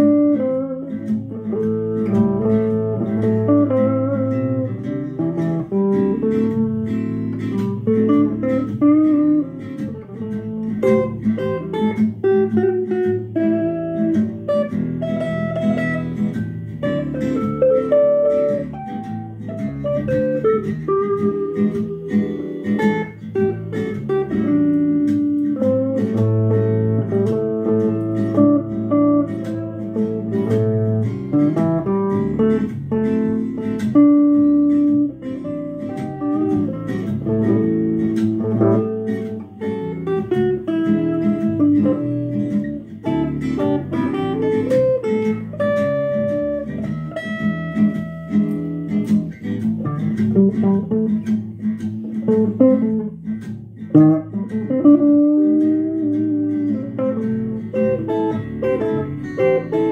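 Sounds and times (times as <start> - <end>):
electric guitar blues shuffle: 0.0 - 59.9.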